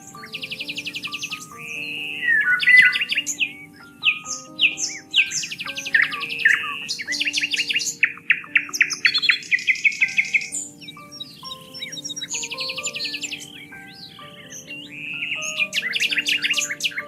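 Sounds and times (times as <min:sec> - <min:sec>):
soft music of held notes: 0:00.0 - 0:17.0
songbirds chirping and singing: 0:00.0 - 0:17.0.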